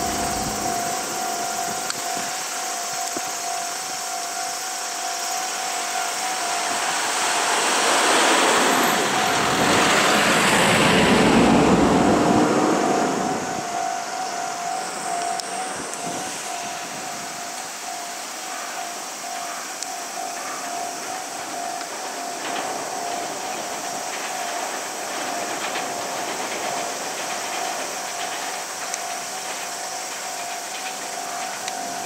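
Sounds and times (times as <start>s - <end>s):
electric train passing: 0.0s - 32.0s
level crossing alarm ringing: 0.0s - 32.0s.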